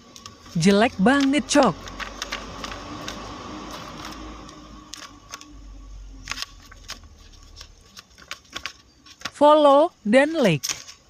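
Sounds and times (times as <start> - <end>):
paper puppet clicks and rustles: 0.0 - 5.6, 6.2 - 11.0.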